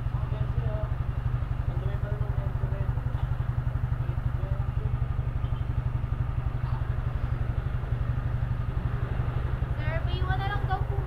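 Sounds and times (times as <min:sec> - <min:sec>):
scooter engine idling: 0:00.0 - 0:11.0.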